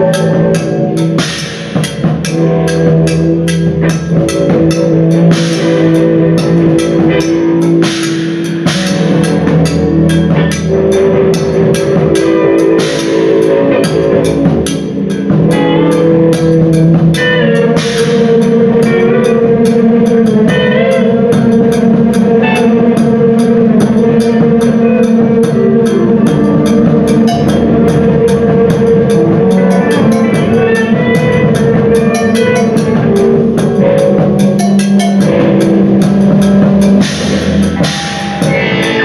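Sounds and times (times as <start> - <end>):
drum kit beating fast: 0.0 - 39.0
long held guitar notes: 0.0 - 39.0.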